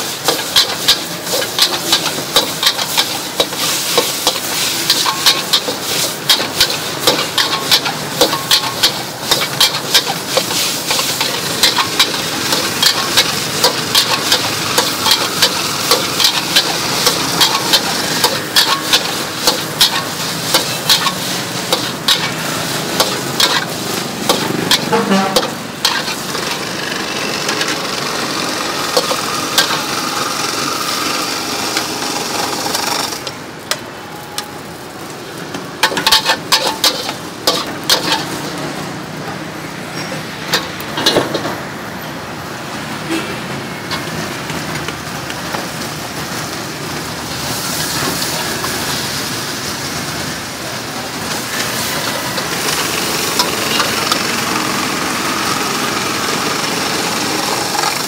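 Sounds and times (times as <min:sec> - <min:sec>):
steady sizzling: 0:00.0 - 0:39.2, 0:44.0 - 0:58.0.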